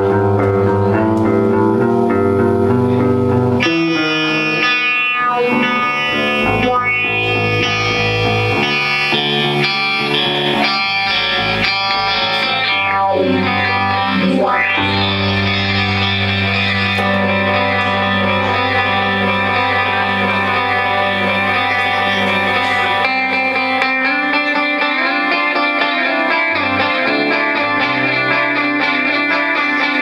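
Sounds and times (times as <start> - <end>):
distorted electric guitar: 0.0 - 30.0.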